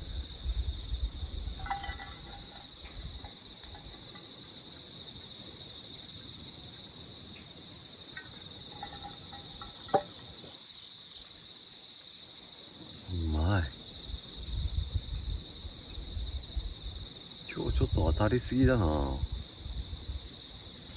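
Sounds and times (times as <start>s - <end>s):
crickets trilling: 0.0s - 20.9s.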